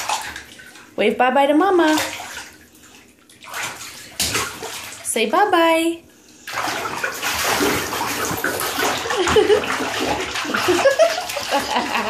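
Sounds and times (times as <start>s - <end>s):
child splashing in bath water: 0.0s - 1.0s, 1.8s - 5.1s, 6.4s - 12.0s.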